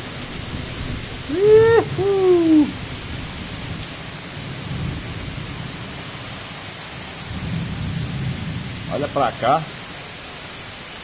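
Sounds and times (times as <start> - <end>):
heavy rain on trees and paving: 0.0 - 11.0.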